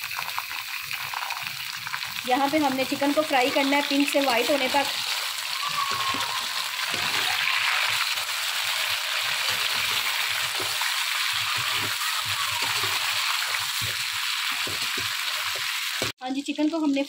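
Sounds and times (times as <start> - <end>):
chicken and onions sizzling in pan: 0.0 - 17.0.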